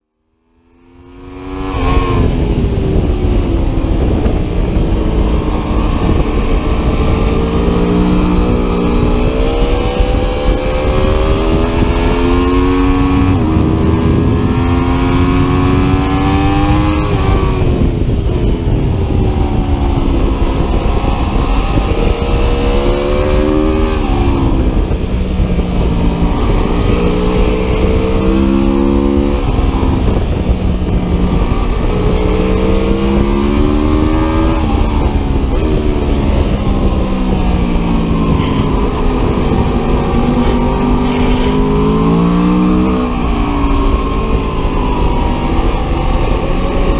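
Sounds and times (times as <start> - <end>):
wind or road noise rushing: 0.0 - 46.9
motorcycle engine pulling hard: 0.8 - 46.9.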